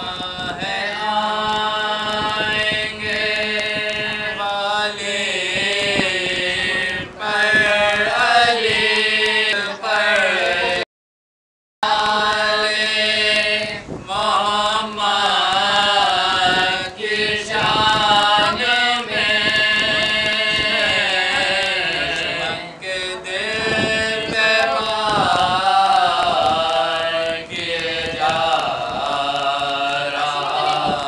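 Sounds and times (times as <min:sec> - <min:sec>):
men chanting an elegy: 0:00.2 - 0:10.9, 0:11.8 - 0:31.0.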